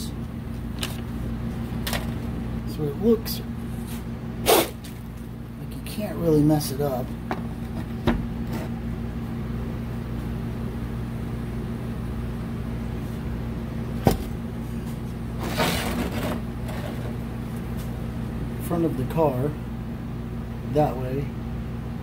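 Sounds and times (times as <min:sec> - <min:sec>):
shop equipment humming: 0:00.0 - 0:22.0.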